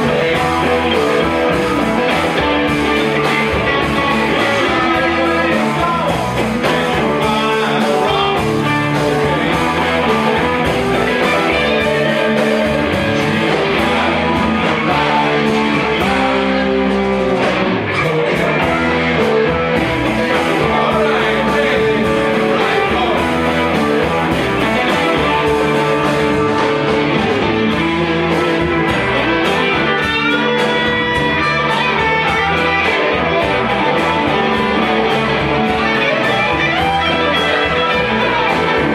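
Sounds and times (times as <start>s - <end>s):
drum kit: 0.0s - 38.9s
electric guitars: 0.0s - 38.9s
keyboard: 0.0s - 38.9s.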